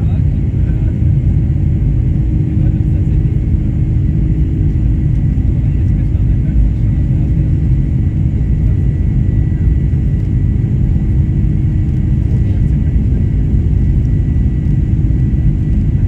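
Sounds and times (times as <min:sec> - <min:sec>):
jet engine and airflow rumble: 0:00.0 - 0:16.0
low hums: 0:00.0 - 0:16.0.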